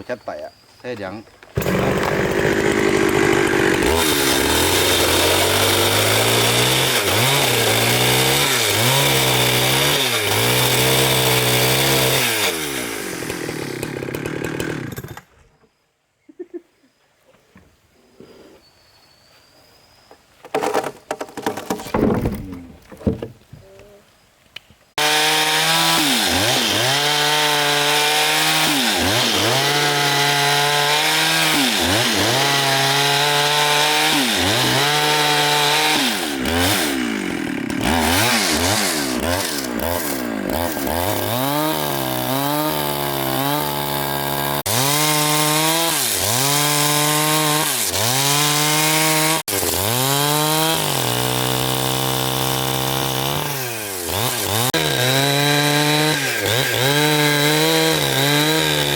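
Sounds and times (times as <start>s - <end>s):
chainsaw cutting log: 1.5s - 15.4s, 25.0s - 58.9s.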